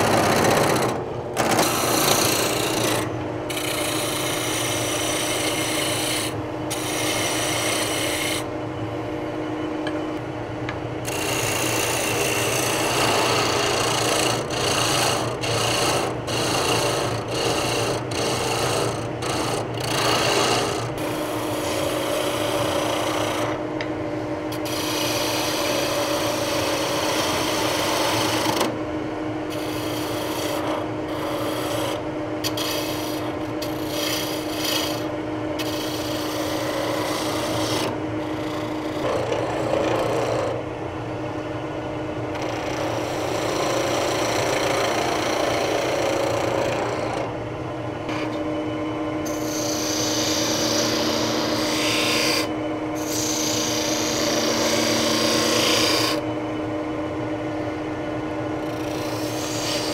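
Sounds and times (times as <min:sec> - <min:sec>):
gouge cutting spinning wood: 0:00.0 - 0:08.5, 0:11.0 - 0:23.6, 0:24.5 - 0:28.8, 0:29.5 - 0:40.6, 0:42.3 - 0:47.3, 0:49.2 - 0:56.3, 0:58.6 - 0:59.9
lathe motor hum: 0:00.0 - 0:10.3, 0:11.0 - 0:28.8, 0:29.4 - 0:59.9.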